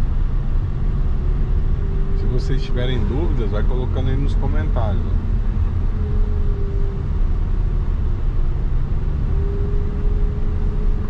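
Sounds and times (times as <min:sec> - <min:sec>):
car engine and road drone: 0:00.0 - 0:11.0
faint whine: 0:00.0 - 0:11.0.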